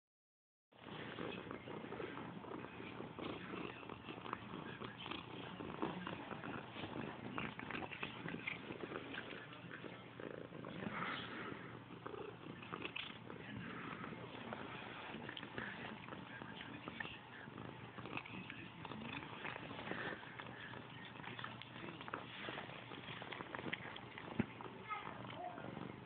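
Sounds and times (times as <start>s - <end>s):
cat purring: 0.8s - 26.0s
cat chewing: 1.1s - 25.4s.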